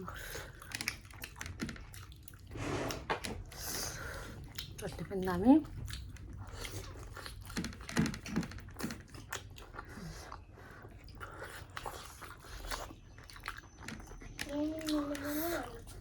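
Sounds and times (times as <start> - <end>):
person chewing food: 0.0 - 4.9, 5.6 - 16.0.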